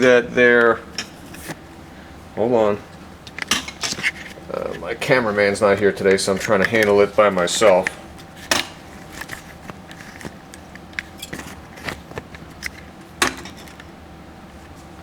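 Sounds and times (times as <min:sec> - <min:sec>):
faint steady hum: 0:00.0 - 0:15.0
handling clicks and knocks: 0:00.6 - 0:01.7, 0:02.7 - 0:14.0.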